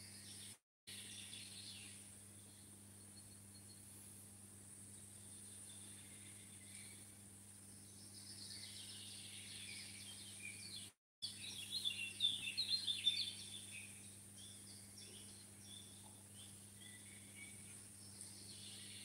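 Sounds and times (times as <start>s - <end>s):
faint steady hum: 0.0s - 19.0s
small birds chirping: 0.0s - 19.0s.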